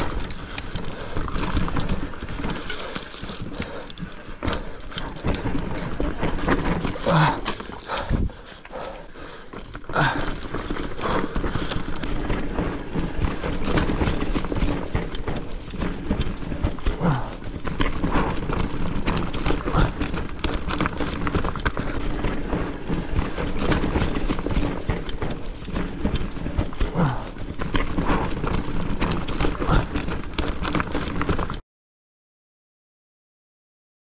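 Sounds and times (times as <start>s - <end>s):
mountain bike clattering on trail: 0.0s - 31.6s.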